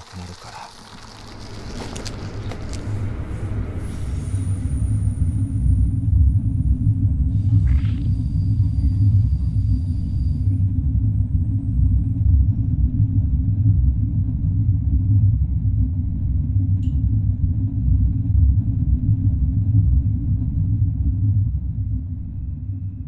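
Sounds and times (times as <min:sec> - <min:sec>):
subway train rumbling: 0:00.2 - 0:23.0.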